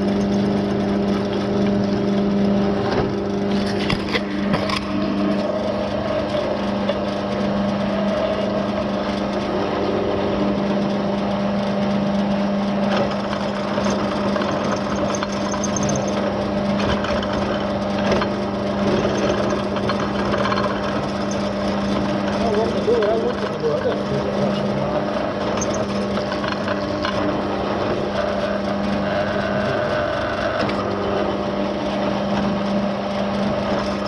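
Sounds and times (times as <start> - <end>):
rough grinding noise: 0.0 - 11.3, 12.2 - 34.0
motor humming under load: 0.0 - 34.0.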